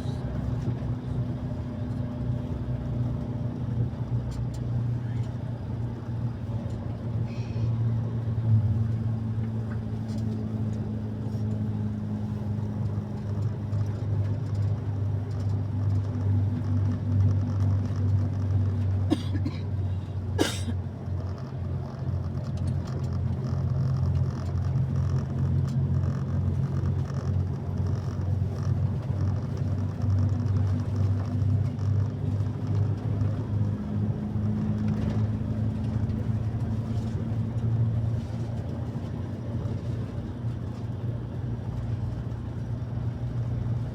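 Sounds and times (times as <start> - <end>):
low engine drone: 0.0 - 43.9.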